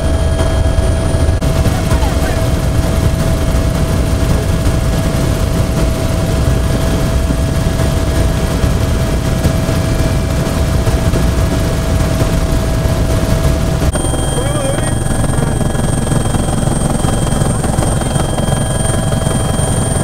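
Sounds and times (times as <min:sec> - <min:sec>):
helicopter turbine and rotor drone: 0:00.0 - 0:20.0
thin steady whine: 0:00.0 - 0:20.0.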